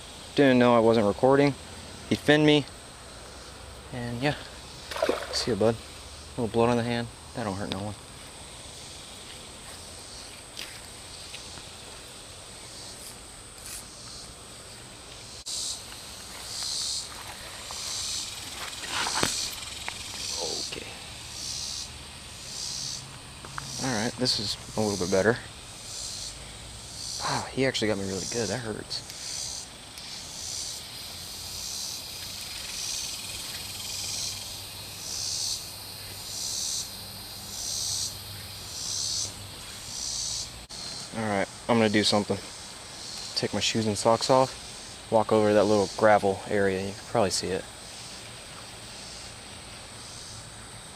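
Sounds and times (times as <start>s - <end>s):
insect high whine: 0.0s - 50.9s
insect short high buzzes: 8.1s - 50.9s.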